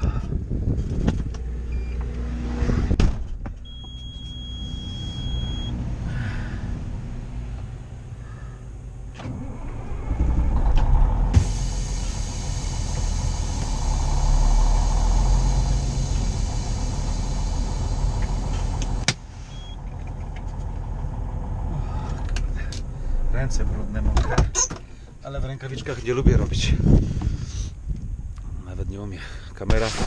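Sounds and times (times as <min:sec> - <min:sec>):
diesel truck engine: 0:00.0 - 0:28.4.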